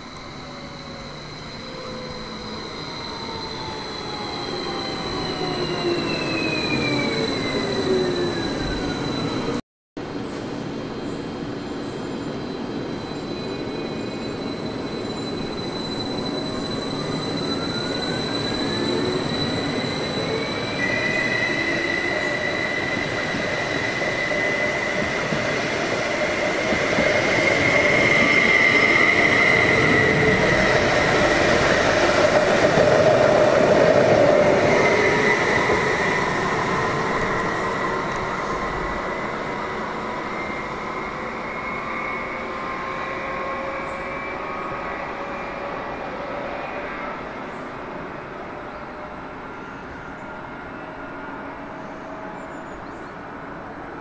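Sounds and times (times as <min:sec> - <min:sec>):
electric train whine: 0:00.0 - 0:54.0.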